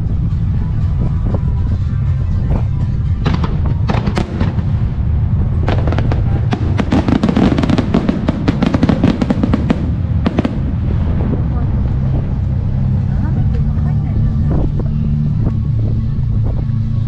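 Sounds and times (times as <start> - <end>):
fireworks bursting: 0.0 - 13.7
music with deep bass: 0.0 - 17.0.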